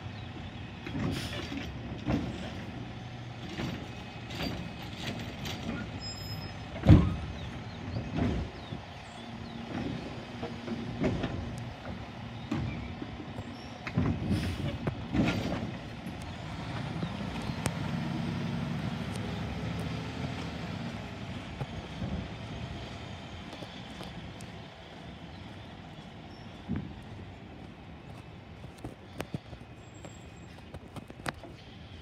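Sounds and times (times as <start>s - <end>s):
garbage truck engine running: 0.1s - 27.1s.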